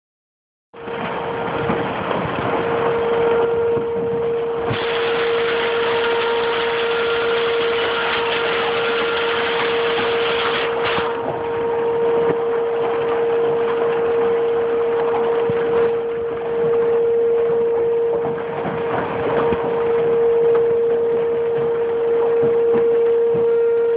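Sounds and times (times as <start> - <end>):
steady humming tone: 0.8 - 23.9.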